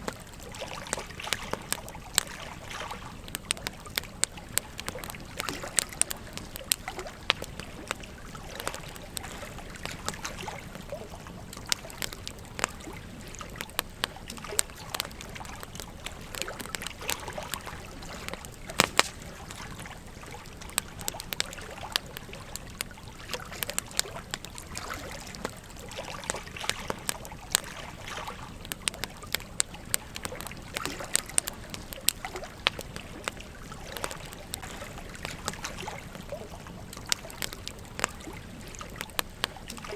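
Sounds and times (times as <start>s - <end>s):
campfire crackling and popping: 0.0s - 39.9s
gentle stream trickling: 0.0s - 39.9s.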